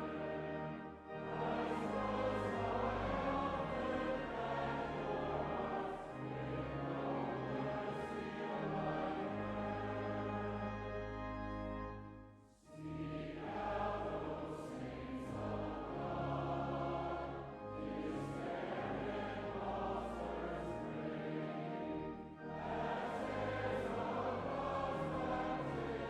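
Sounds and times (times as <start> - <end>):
voices singing a hymn: 0.0 - 11.8, 12.6 - 26.0
sustained low accompaniment: 0.0 - 26.0.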